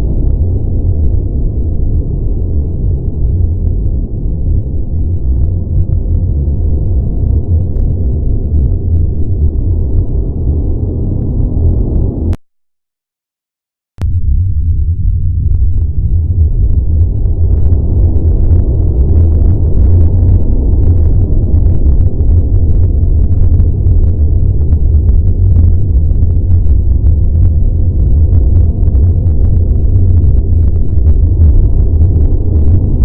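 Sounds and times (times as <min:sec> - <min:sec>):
deep spaceship rumble: 0:00.0 - 0:12.4, 0:14.0 - 0:33.0
faint crackle: 0:00.0 - 0:12.4, 0:14.0 - 0:33.0.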